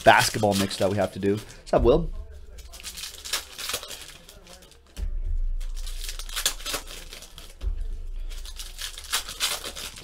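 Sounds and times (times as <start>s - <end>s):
foil wrappers tearing and crinkling: 0.0s - 1.6s, 2.5s - 5.0s, 5.6s - 10.0s.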